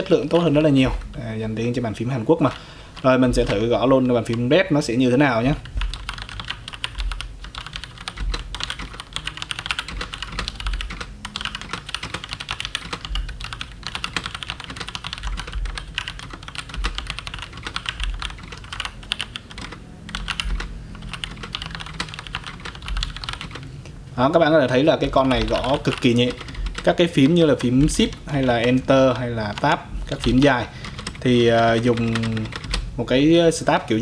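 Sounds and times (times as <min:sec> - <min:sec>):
mechanical keyboard typing: 0:00.0 - 0:01.2, 0:02.4 - 0:04.6, 0:05.4 - 0:23.7, 0:24.7 - 0:32.9.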